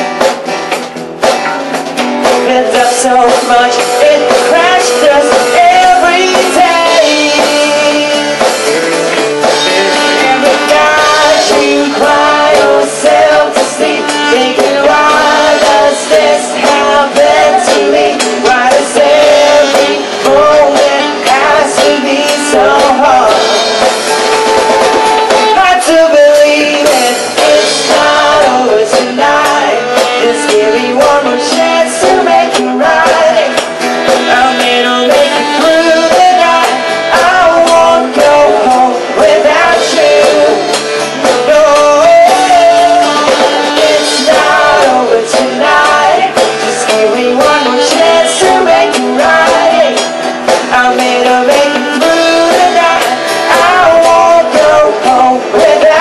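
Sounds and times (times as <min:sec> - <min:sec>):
acoustic guitar: 0:00.0 - 0:56.0
drum kit: 0:00.0 - 0:56.0
electric bass: 0:00.0 - 0:56.0
saxophone: 0:03.2 - 0:54.8.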